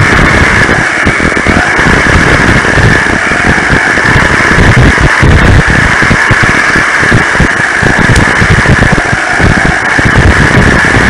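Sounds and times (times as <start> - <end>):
electric motor whine: 0.0 - 11.0
rattling rumble of tracks: 0.0 - 11.0.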